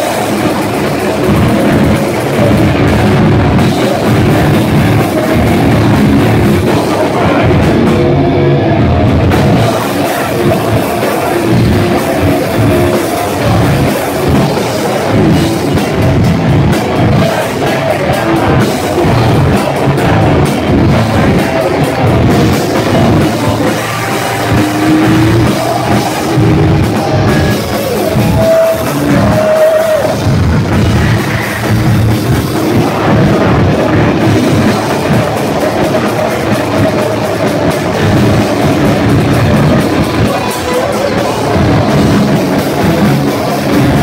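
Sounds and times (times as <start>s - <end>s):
distorted electric guitars: 0.0s - 44.0s
fast pounding drums: 0.0s - 44.0s.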